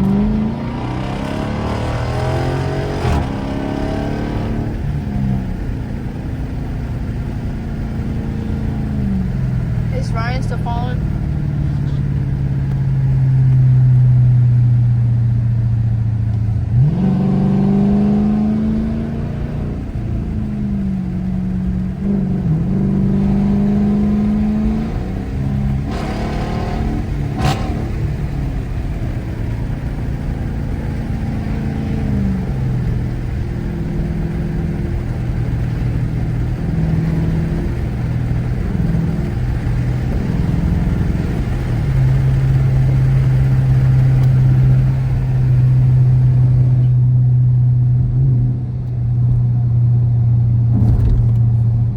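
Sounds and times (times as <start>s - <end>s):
car engine revving and accelerating: 0.0s - 51.9s.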